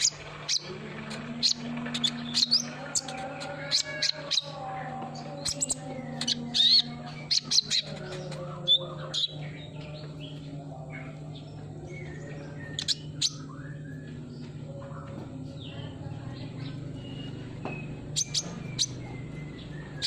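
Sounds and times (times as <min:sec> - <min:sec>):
bird chirping and trilling: 0:00.0 - 0:20.0
steady low hum: 0:00.0 - 0:20.0.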